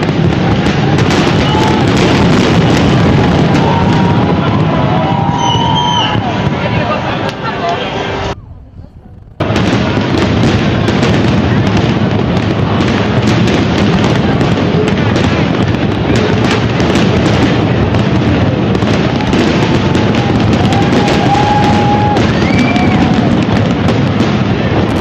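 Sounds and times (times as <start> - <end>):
fireworks bursting and crackling: 0.0 - 25.0
sharp firework reports: 0.0 - 25.0.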